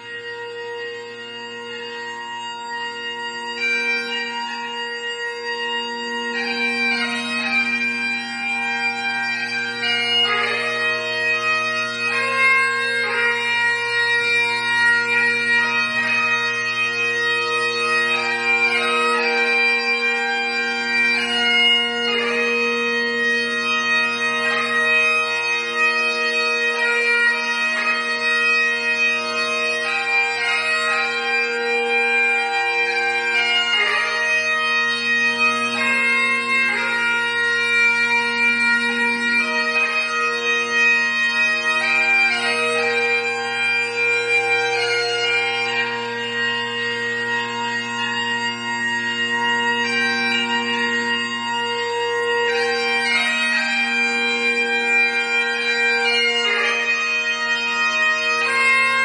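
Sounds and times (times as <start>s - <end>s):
bagpipe drones: 0.0s - 59.0s
bagpipe melody: 0.0s - 59.0s.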